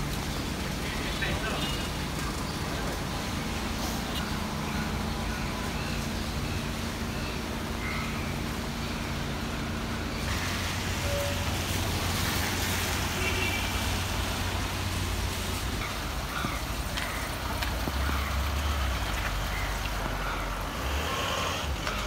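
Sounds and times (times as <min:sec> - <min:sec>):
car engines running: 0:00.0 - 0:22.0
vehicles passing on wet road: 0:00.0 - 0:22.0.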